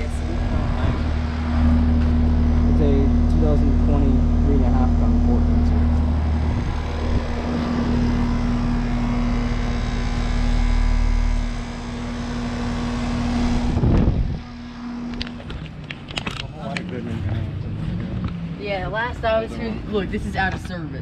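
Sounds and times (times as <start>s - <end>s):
fan rushing: 0.0s - 20.8s
compressor electrical hum: 0.0s - 21.0s.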